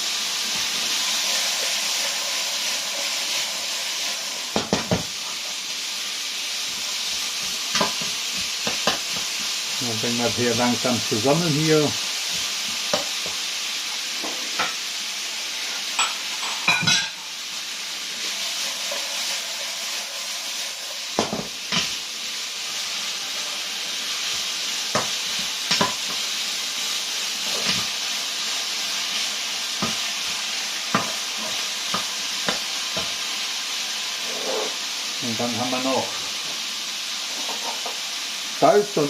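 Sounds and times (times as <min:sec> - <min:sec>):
food sizzling in a wok: 0:00.0 - 0:39.0.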